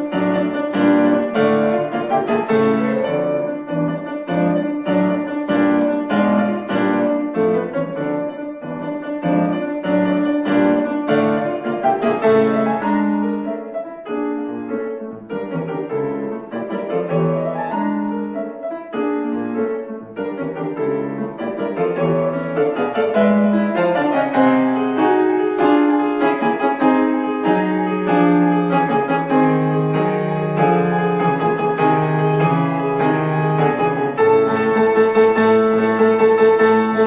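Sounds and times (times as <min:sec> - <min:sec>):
solo piano classical piece: 0:00.0 - 0:37.0.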